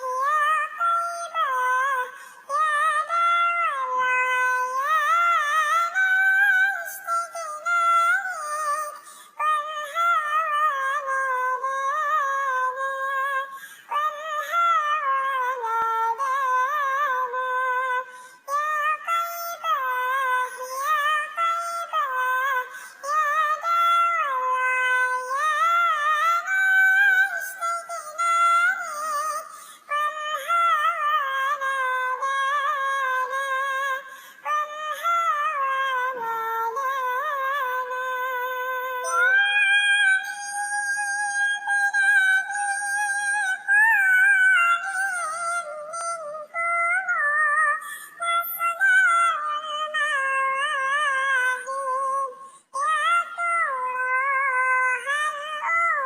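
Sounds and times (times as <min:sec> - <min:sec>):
synthetic solo singing voice: 0:00.0 - 0:56.0.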